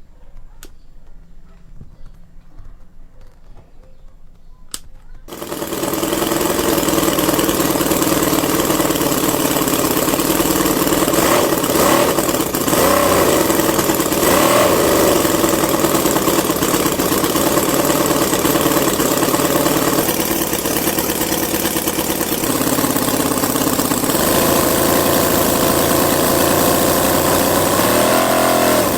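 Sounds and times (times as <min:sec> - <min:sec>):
miniature diesel engine running: 0:05.3 - 0:28.9.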